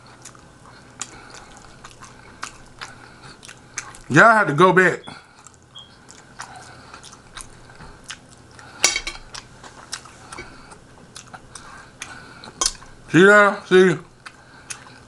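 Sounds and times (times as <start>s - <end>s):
person chewing steak: 0.0s - 4.1s, 5.0s - 15.0s
wet chewing clicks and smacks: 0.0s - 4.1s, 5.1s - 13.1s, 14.0s - 15.0s.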